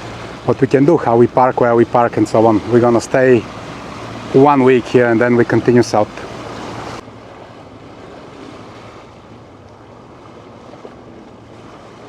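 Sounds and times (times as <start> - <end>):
water washing: 0.0 - 12.0.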